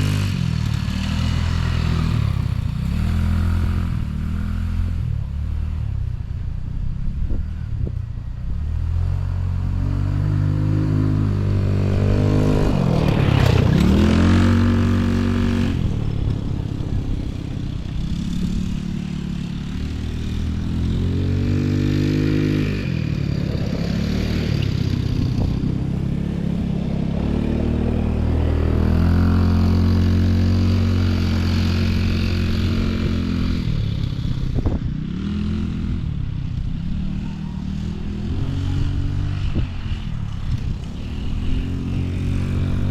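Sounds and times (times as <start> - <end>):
off-road engine revving: 0.0 - 42.9.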